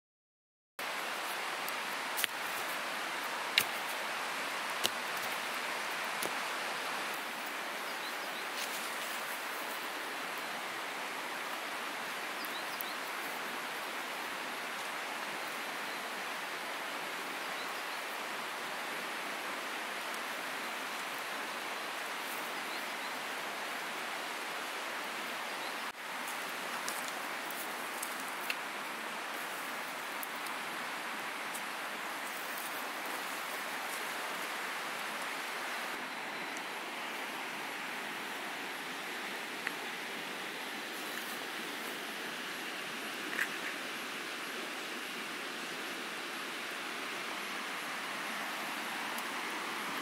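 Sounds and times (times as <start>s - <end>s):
river rushing: 0.8s - 50.0s.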